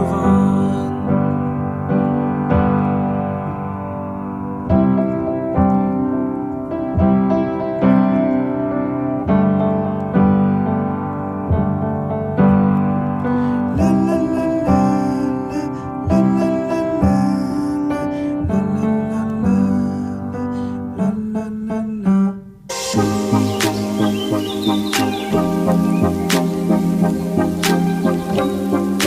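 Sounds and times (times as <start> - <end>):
piano pop instrumental: 0.0 - 29.0.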